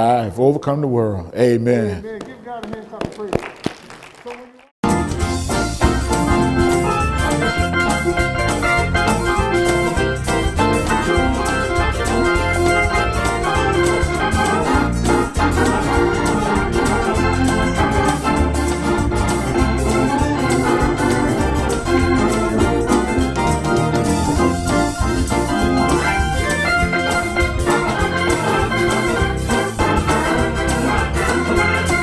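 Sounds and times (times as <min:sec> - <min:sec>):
organ music: 0:04.8 - 0:32.0
sharp beats: 0:04.8 - 0:32.0.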